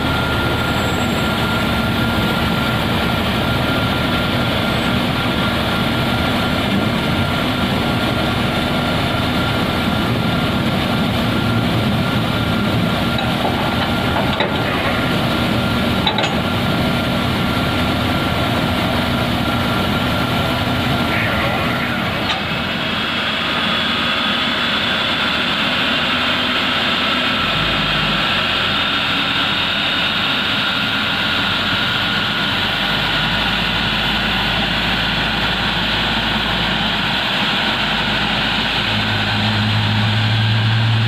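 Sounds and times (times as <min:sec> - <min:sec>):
airport ramp machinery drone: 0:00.0 - 0:41.0
high-pitched whine: 0:00.0 - 0:41.0.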